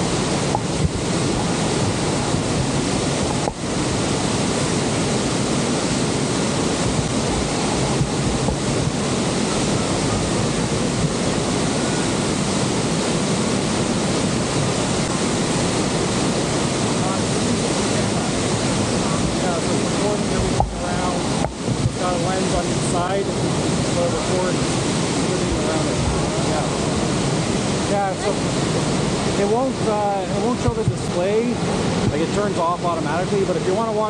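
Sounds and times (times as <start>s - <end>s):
wind buffeting microphone: 0.0s - 33.9s
waterfall roaring: 0.0s - 34.0s.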